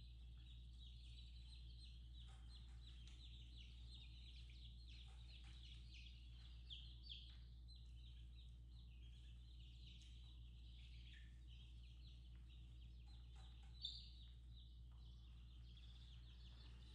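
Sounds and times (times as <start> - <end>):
baby chicks peeping: 0.0 - 16.9
low steady hum: 0.0 - 16.9.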